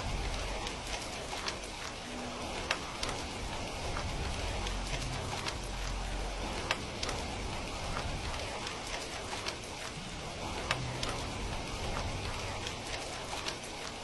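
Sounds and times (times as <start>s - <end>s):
rain hiss: 0.0s - 14.0s
wood fire crackling and popping: 0.0s - 14.0s.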